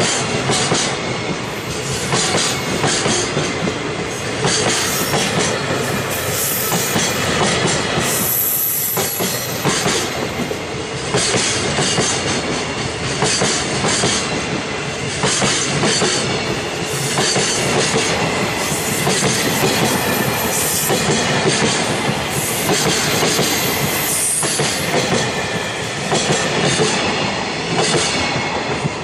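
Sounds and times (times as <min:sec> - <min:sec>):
train wheels clattering over rail joints: 0:00.0 - 0:29.0.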